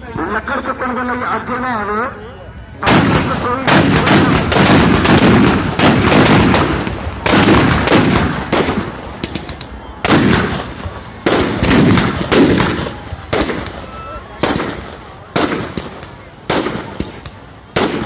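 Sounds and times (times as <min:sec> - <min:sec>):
firecrackers banging: 0:02.8 - 0:18.0.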